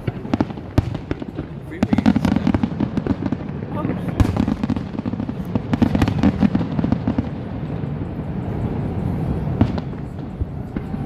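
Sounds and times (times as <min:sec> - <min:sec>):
distant fireworks bursts rumbling: 0:00.0 - 0:11.0
fireworks crackling and booming: 0:00.0 - 0:11.0.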